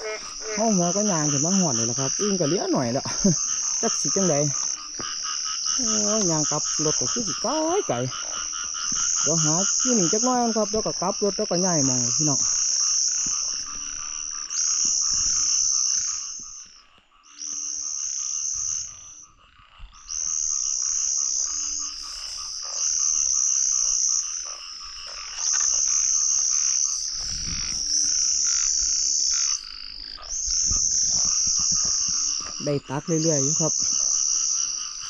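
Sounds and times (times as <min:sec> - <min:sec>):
chorus of frogs calling: 0:00.0 - 0:35.0
frogs trilling: 0:00.0 - 0:35.0
short low frog calls: 0:00.0 - 0:35.0.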